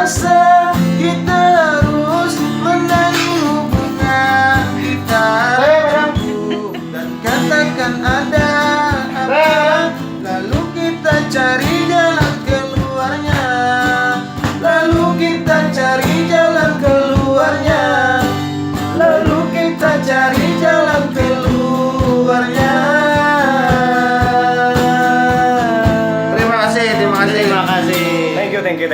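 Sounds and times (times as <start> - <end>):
person singing wordless melody: 0.0 - 28.5
strummed acoustic guitar: 0.0 - 28.9.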